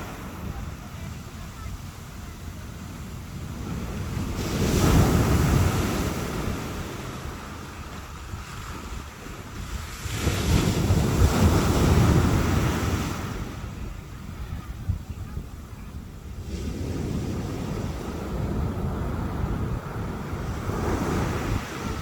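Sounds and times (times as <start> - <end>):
waves breaking on shore: 0.0 - 22.0
wind rumbling on microphone: 0.0 - 22.0.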